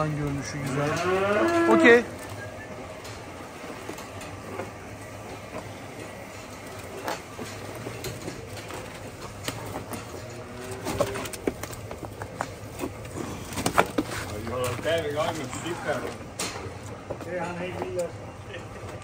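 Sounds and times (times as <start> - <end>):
cattle knocking and clattering: 0.1 - 15.7.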